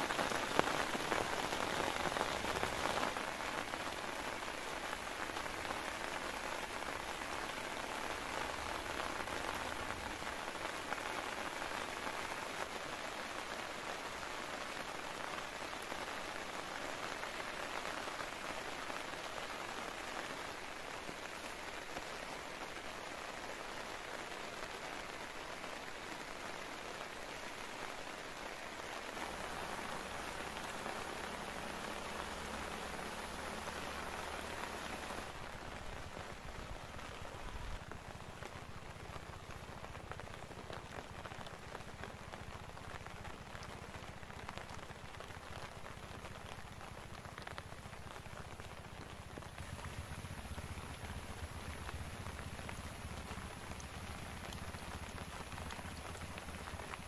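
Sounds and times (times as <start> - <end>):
rain falling on a tent: 0.0 - 57.0.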